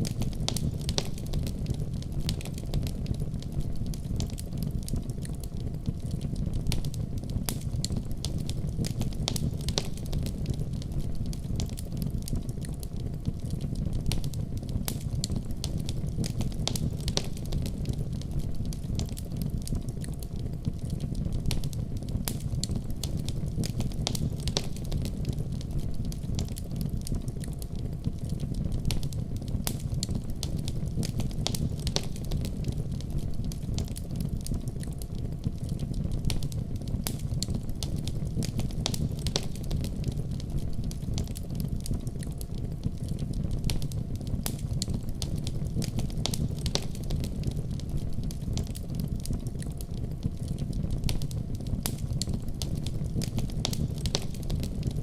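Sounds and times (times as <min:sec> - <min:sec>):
fire popping and snapping: 0:00.0 - 0:55.0
wood fire crackling: 0:00.0 - 0:55.0.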